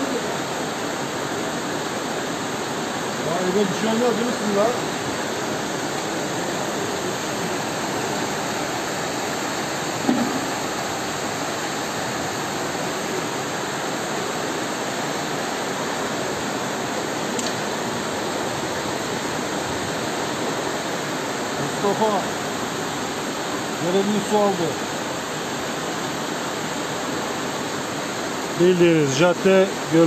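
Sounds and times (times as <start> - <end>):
floodwater rushing: 0.0 - 30.0.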